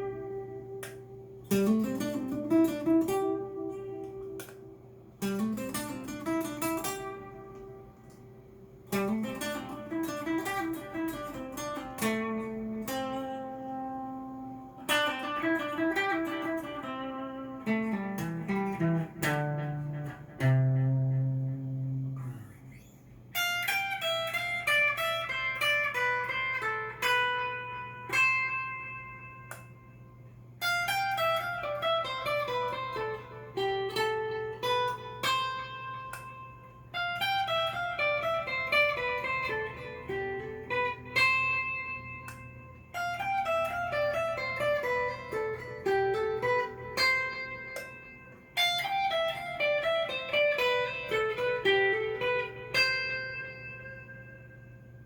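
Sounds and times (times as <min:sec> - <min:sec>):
clean electric guitar: 0:00.0 - 0:55.0.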